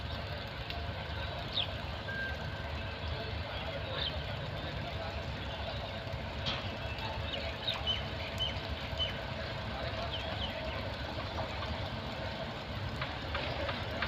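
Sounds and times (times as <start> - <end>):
train low rumble: 0.0 - 14.0
faint murmur of voices: 0.1 - 14.0.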